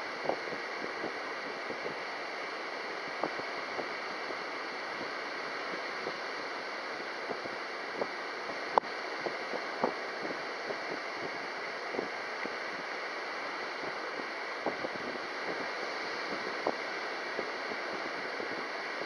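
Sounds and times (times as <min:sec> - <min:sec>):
gusty wind: 0:00.0 - 0:19.0.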